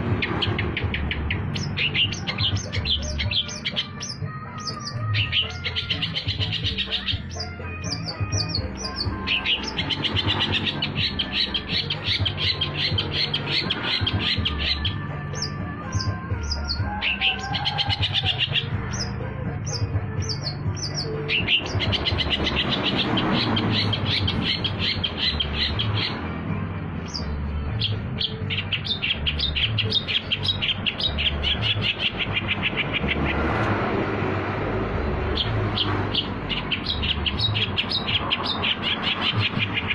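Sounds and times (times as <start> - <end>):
bird singing with chattering notes: 0.0 - 33.8, 35.0 - 39.9.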